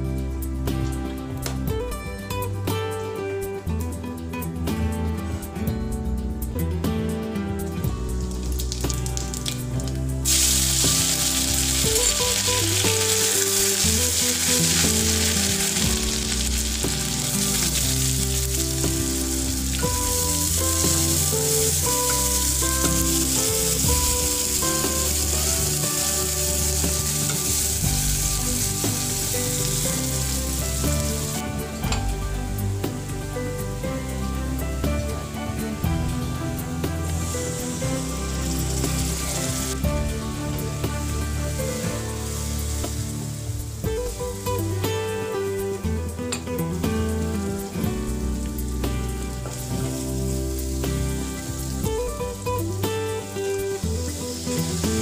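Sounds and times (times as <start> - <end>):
background music: 0.0 - 55.0
onions sizzling in oil: 8.1 - 55.0.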